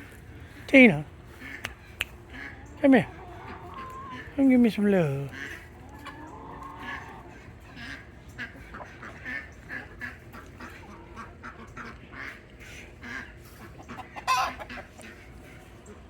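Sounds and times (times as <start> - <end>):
farm animals calling: 0.0 - 16.0.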